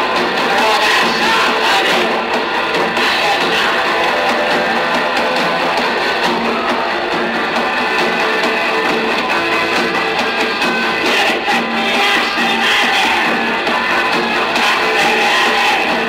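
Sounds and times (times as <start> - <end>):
punk rock band playing live: 0.0 - 16.0
strummed electric guitar: 0.0 - 16.0.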